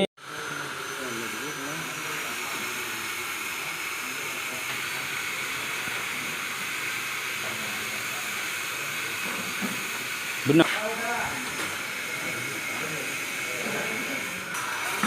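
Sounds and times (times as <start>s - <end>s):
faint voices murmuring: 0.2s - 15.0s.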